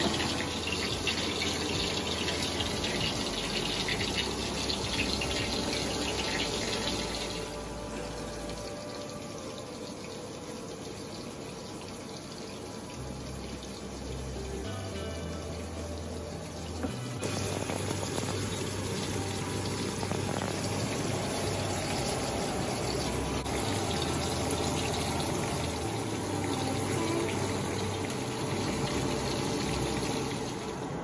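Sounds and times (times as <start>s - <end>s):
food sizzling in oil: 0.0s - 15.1s, 16.8s - 30.8s
background music: 0.0s - 31.0s.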